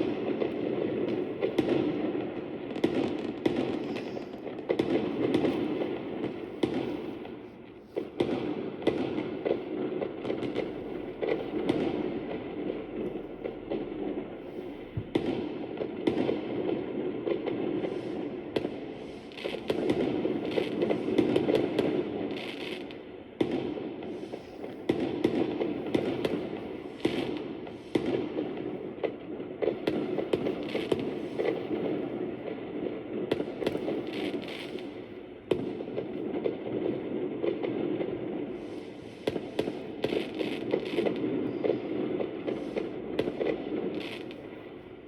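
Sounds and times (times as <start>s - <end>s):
fireworks popping and crackling: 0.0s - 45.0s.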